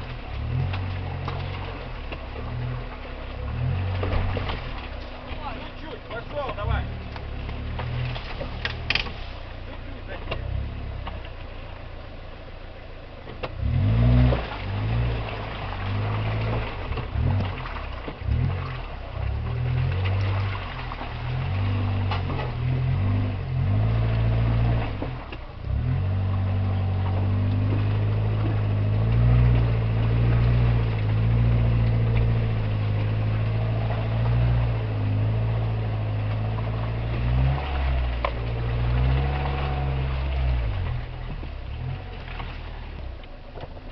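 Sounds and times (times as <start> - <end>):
engine running at low revs: 0.0 - 43.9.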